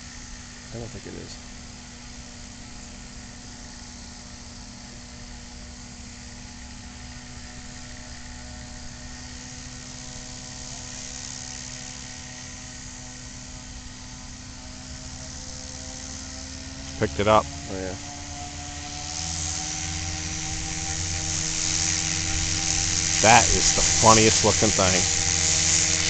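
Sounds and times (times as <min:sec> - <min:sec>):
distant model aircraft motor buzz: 0:00.0 - 0:26.0.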